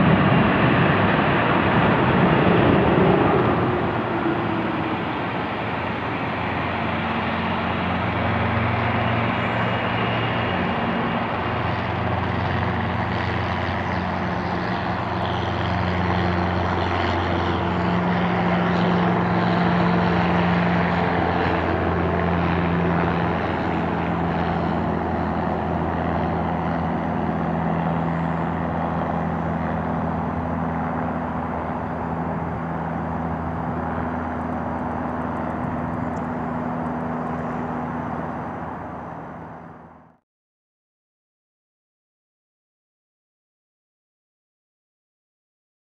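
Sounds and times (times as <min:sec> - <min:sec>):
jet engines whining and rumbling: 0:00.0 - 0:40.2.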